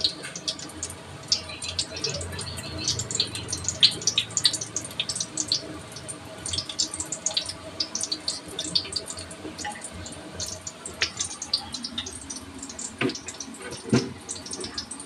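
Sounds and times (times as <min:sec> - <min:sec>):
hot oil sizzling and popping: 0:00.0 - 0:15.0.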